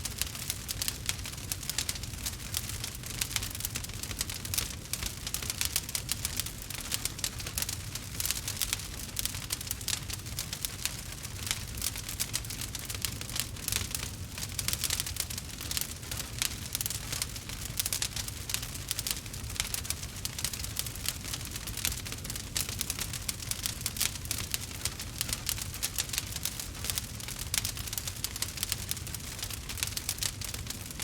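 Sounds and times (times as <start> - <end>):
campfire crackling and popping: 0.0 - 31.0
low rumble of flame: 0.0 - 31.0.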